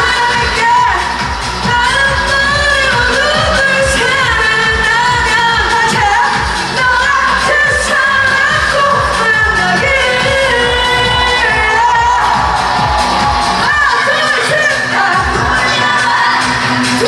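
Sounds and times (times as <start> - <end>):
drum beat and bass: 0.0 - 17.0
live pop song with singing: 0.0 - 17.0.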